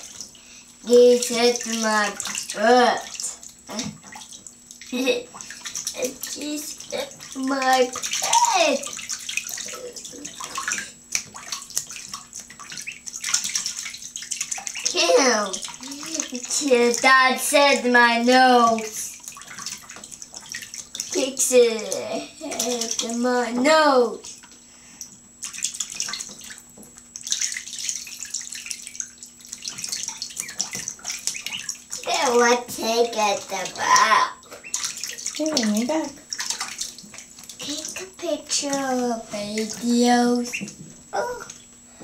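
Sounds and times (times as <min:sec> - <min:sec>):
ducklings splashing in water: 0:00.0 - 0:24.5, 0:25.4 - 0:41.6.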